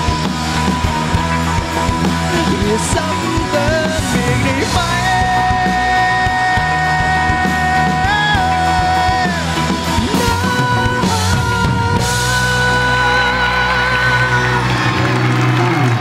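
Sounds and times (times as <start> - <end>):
rock band playing live: 0.0 - 16.0
man singing: 2.2 - 16.0.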